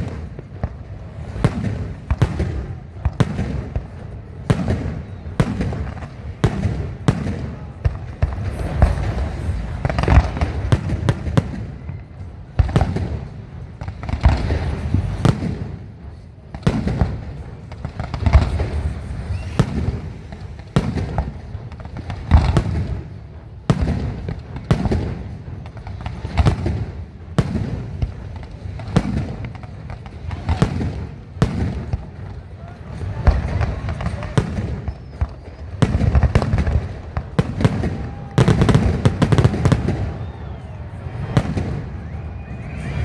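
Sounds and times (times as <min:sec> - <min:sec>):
low rumbling echo: 0:00.0 - 0:34.8
fireworks bursting with loud bangs: 0:00.0 - 0:43.0.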